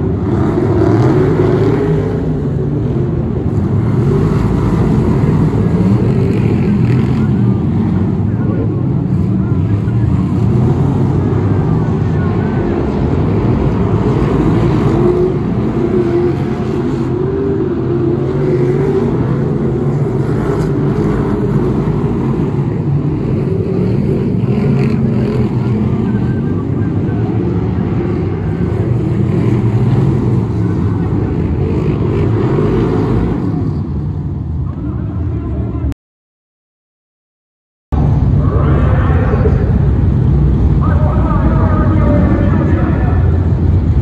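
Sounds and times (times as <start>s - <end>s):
stock car engines racing: 0.0s - 35.9s, 38.0s - 44.0s.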